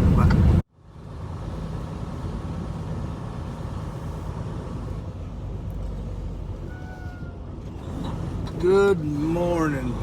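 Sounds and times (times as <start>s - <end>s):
truck engine rumble: 0.0s - 10.0s.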